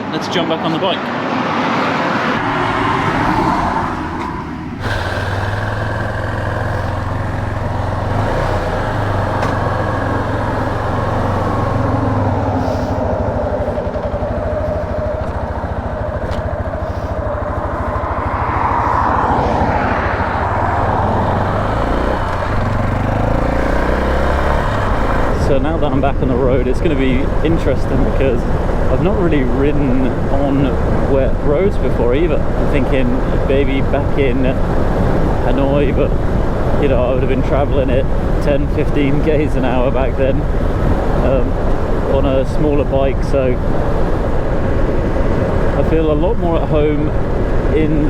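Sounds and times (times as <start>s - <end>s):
wind and road noise: 0.0s - 48.0s
motorcycle engine running: 2.4s - 48.0s.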